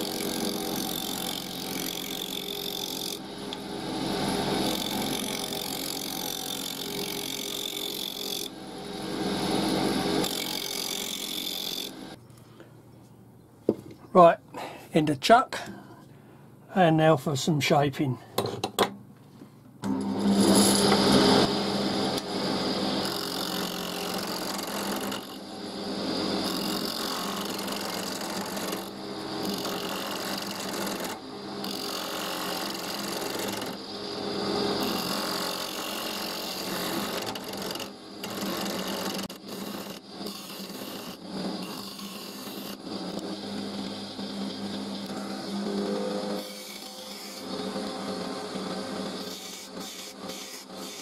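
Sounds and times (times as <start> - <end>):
lathe motor hum: 0.0 - 12.2, 19.8 - 51.0
lathe tool cutting wood: 0.0 - 12.2, 19.8 - 51.0.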